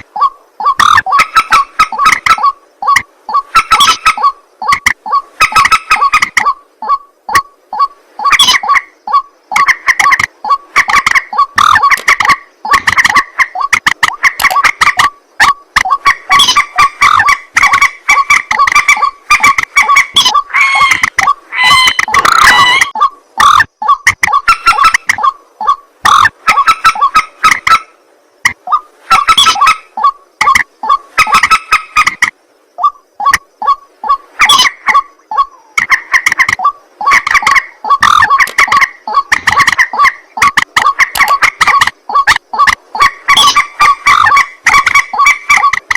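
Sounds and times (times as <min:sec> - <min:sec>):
waterhen giving rapid clipped calls: 0:00.0 - 0:27.9, 0:28.5 - 0:45.9.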